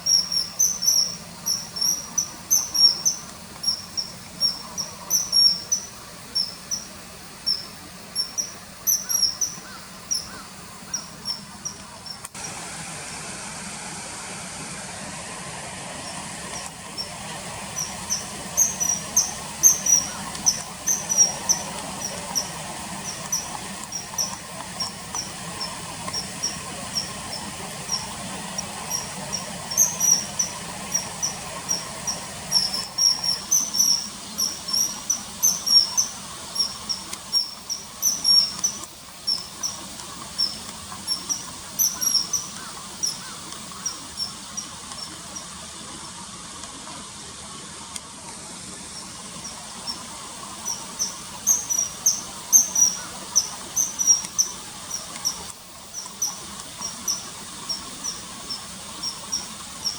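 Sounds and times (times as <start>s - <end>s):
kingfisher whistled calls: 0.0s - 12.2s, 16.1s - 45.2s, 49.4s - 59.9s
faint background rush: 0.0s - 59.9s.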